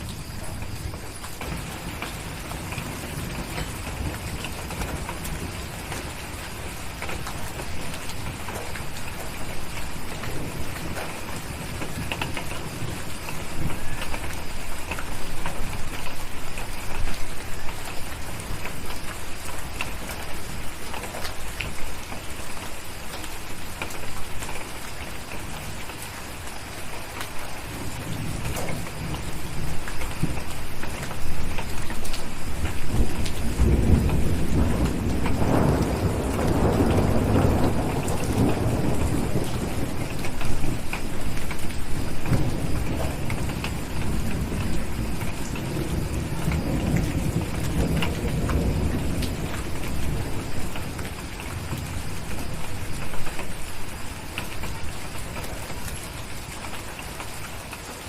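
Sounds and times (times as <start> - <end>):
low rumble of thunder: 0.0 - 57.8
steady rain: 0.0 - 58.0.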